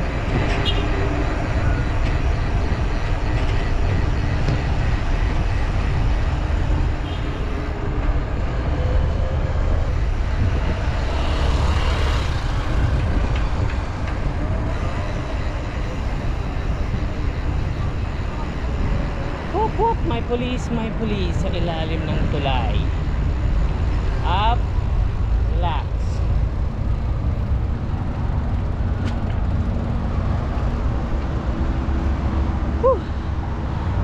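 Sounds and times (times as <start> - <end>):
road traffic: 0.0 - 34.0
wind buffeting microphone: 0.0 - 34.0.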